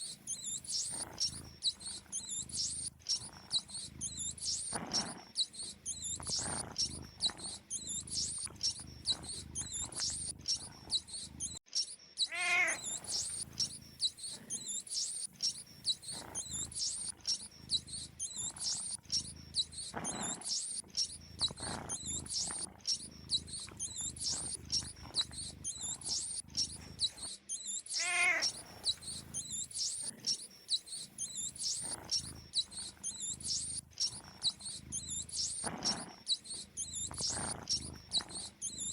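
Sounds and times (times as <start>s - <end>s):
mice squeaking: 0.0s - 38.9s.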